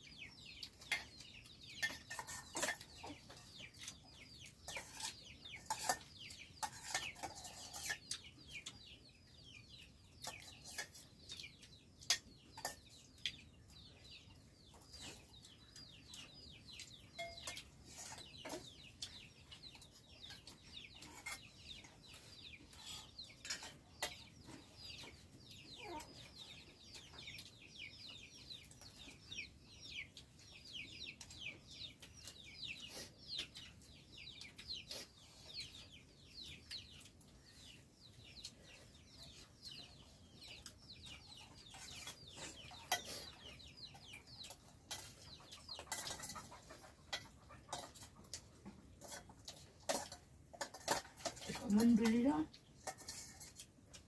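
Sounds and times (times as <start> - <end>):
chickens clucking and chirping: 0.0 - 54.0.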